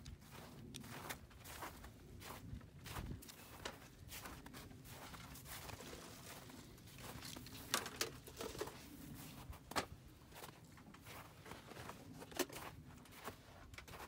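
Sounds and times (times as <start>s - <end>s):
footsteps crunching on snow: 0.0s - 14.0s.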